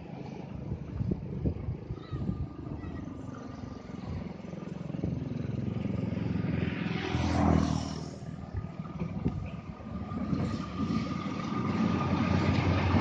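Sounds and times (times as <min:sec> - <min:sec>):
locomotive engine droning: 0:00.0 - 0:13.0.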